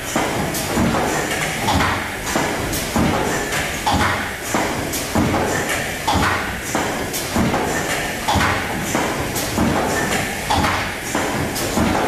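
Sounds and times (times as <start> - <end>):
mechanical knocks of machine: 0.0 - 12.0.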